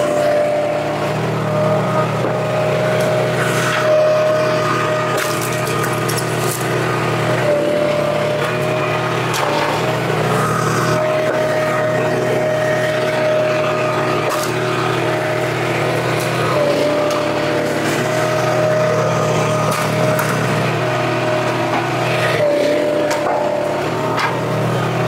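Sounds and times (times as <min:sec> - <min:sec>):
log splitter engine running: 0:00.0 - 0:25.0.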